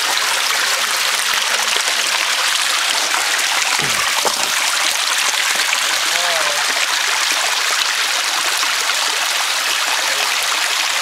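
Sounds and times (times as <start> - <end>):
stream splashing over rocks: 0.0 - 11.0.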